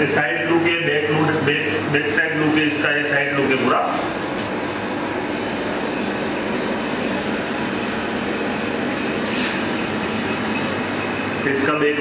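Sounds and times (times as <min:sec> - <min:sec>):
slush machine humming: 0:00.0 - 0:12.0.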